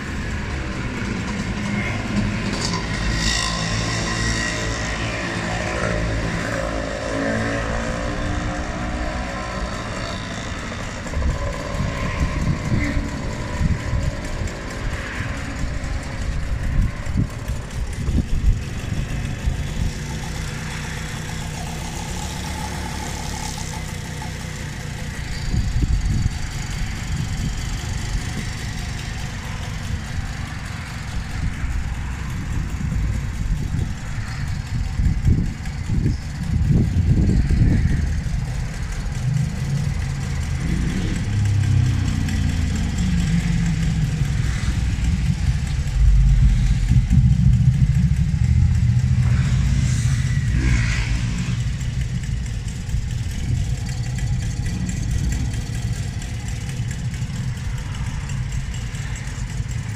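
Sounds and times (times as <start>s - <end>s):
motor engine running: 0.0s - 59.9s.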